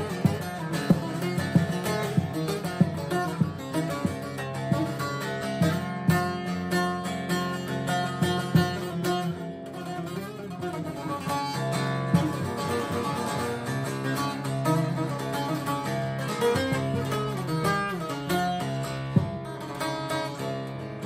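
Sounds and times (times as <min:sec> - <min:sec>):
plucked lute melody: 0:00.0 - 0:21.0.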